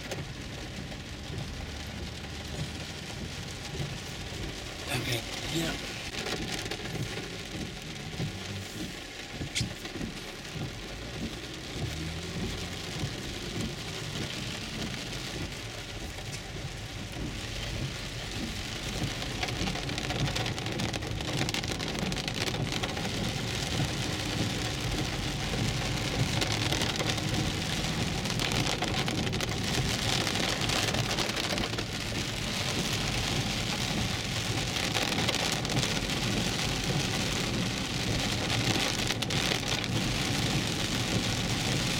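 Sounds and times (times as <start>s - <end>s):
heavy rain on car roof: 0.0s - 41.9s
tyres rumbling on wet road: 0.0s - 41.9s.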